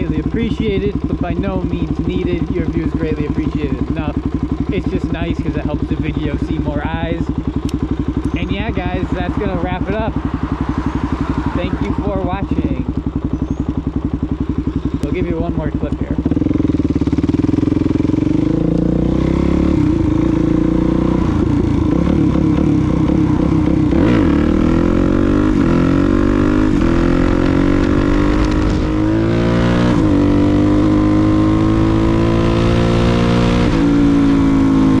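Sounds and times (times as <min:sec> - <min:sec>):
motorcycle engine under throttle: 0:00.0 - 0:35.0.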